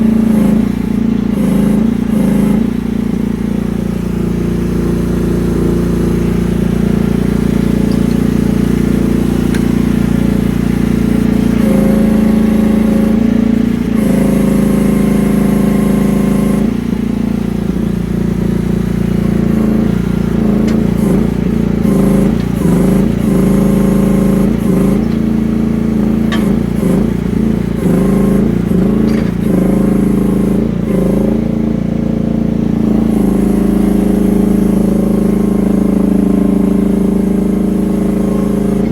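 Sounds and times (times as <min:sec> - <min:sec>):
mini excavator engine running: 0:00.0 - 0:38.9.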